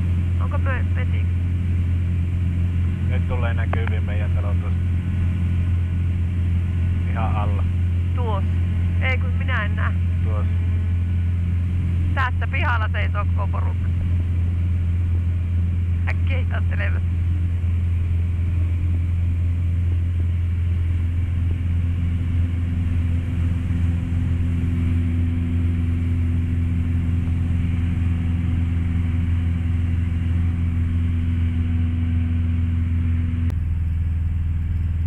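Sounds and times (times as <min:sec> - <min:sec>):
motor glider engine droning: 0:00.0 - 0:35.0.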